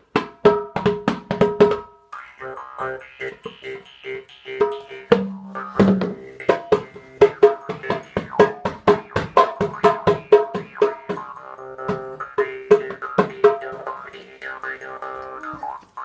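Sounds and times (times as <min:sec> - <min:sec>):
jaw harp twanging: 0:02.1 - 0:16.0.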